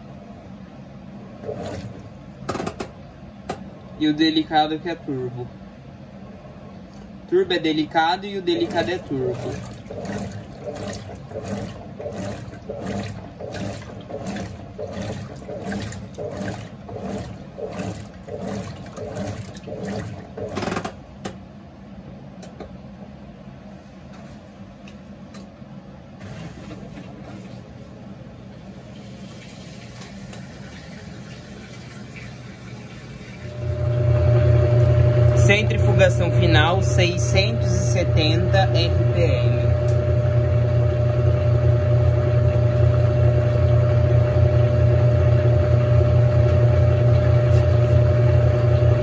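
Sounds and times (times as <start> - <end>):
washing machine humming: 0.0 - 49.0
washing machine agitating water: 1.0 - 4.6, 7.6 - 22.0, 24.1 - 49.0.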